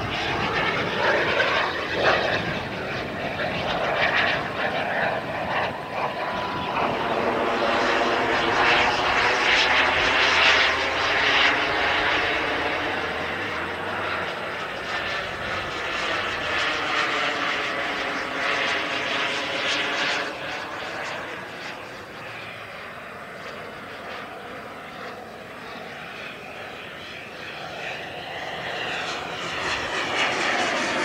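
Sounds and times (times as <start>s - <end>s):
model jet turbine whine: 0.0s - 31.0s.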